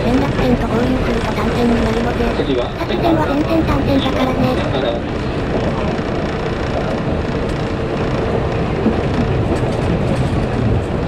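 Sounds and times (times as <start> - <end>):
faint steady hum: 0.0 - 11.0
train wheels and motors rumbling: 0.0 - 11.0.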